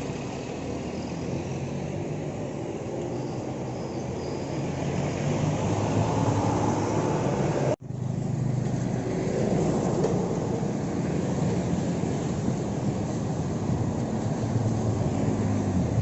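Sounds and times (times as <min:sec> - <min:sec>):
bus engine running: 0:00.0 - 0:16.0
road traffic noise: 0:00.0 - 0:16.0.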